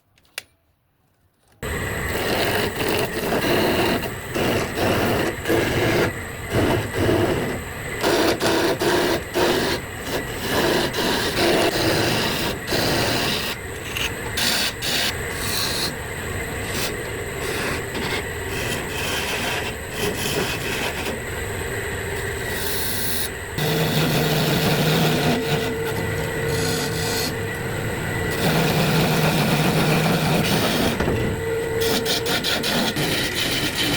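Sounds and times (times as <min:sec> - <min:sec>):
wood lathe cutting wood: 0:02.1 - 0:16.0, 0:16.6 - 0:21.2, 0:22.2 - 0:33.9.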